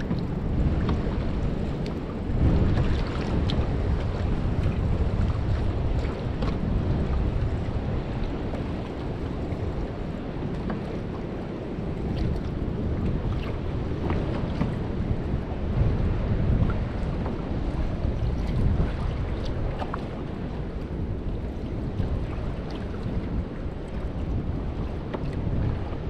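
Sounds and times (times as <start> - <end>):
water splashing against hull: 0.0 - 26.0
wind buffeting microphone: 0.0 - 26.0.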